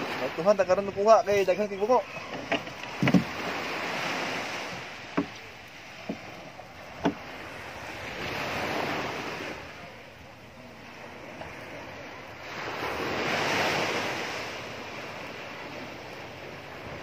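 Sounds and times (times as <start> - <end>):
surf washing on beach: 0.0 - 17.0.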